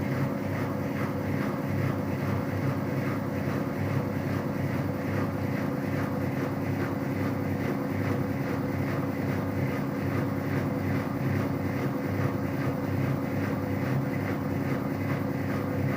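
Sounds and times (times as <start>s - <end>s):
washing machine spinning: 0.0s - 15.9s.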